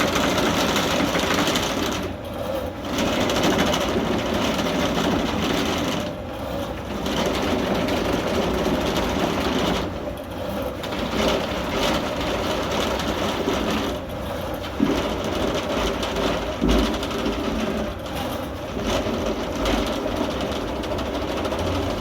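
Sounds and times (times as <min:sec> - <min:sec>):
drain cleaning machine clattering: 0:00.0 - 0:22.0.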